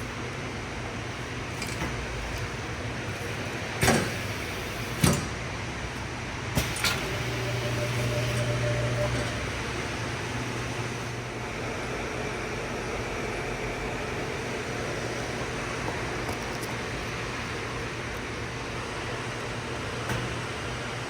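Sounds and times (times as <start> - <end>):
packaging machine humming: 0.0 - 21.0.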